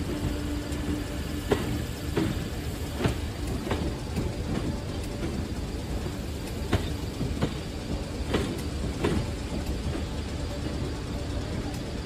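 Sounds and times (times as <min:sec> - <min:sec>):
train rumbling by: 0:00.0 - 0:12.0.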